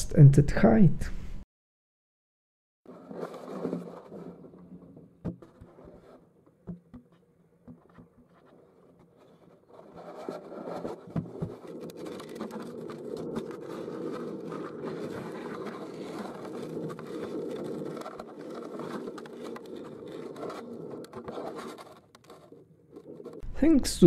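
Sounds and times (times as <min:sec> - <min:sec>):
muffled rumbling and scraping: 0:02.9 - 0:24.0.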